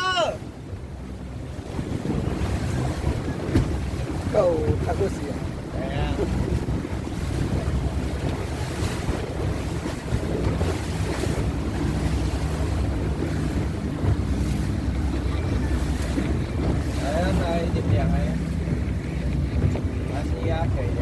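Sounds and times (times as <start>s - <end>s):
boat engine rumble: 0.0s - 21.0s
water wash: 0.0s - 21.0s
wind buffeting microphone: 0.0s - 21.0s.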